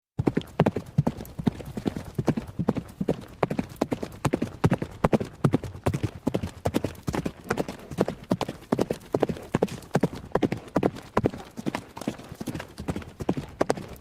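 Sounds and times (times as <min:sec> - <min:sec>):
horse galloping hoofbeats: 0:00.2 - 0:14.0.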